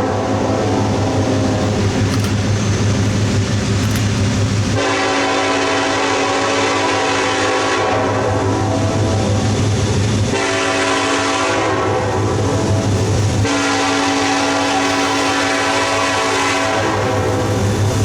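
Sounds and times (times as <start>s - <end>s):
locomotive air horn blasts: 0.0s - 2.3s, 4.7s - 9.4s, 10.3s - 17.6s
train rumble: 0.0s - 18.0s.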